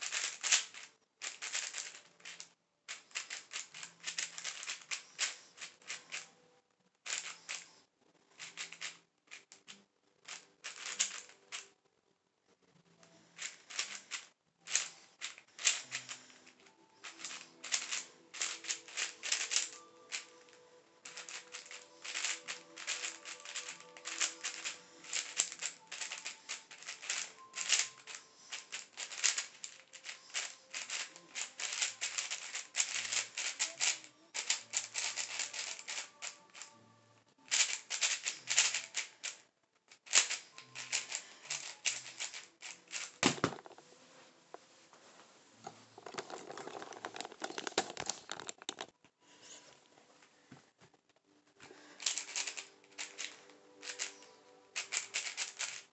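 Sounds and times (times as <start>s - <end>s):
speedcube clicking: 0.0s - 6.3s, 7.1s - 7.6s, 8.4s - 9.7s, 10.3s - 11.6s, 13.4s - 36.7s, 37.5s - 39.4s, 40.0s - 43.7s, 46.0s - 48.9s, 52.0s - 54.2s, 54.8s - 55.9s.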